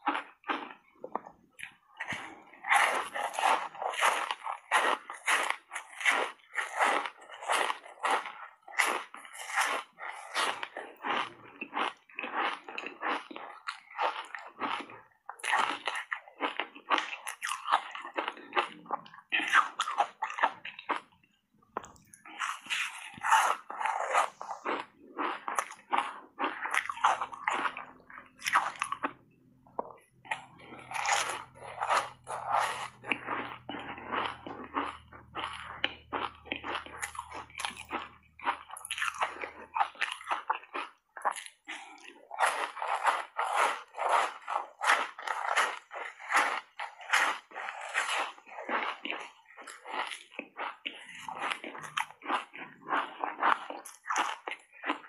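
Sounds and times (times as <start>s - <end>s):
crunching and chewing ice: 0.0s - 55.0s.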